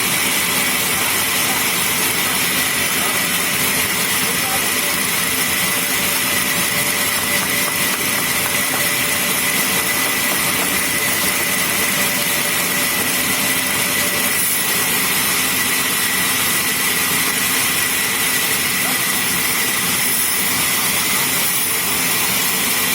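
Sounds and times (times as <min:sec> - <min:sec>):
sawmill machinery whining: 0:00.0 - 0:22.9.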